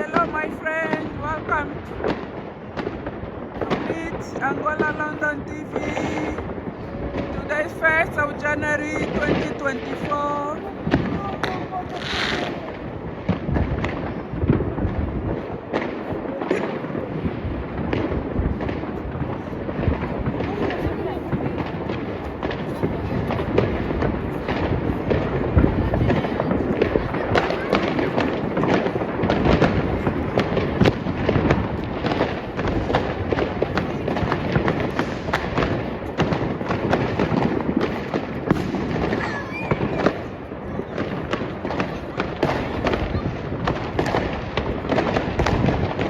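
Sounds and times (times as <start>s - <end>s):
fireworks bangs: 0.0s - 46.0s
rumble of fireworks bursts: 0.0s - 46.0s.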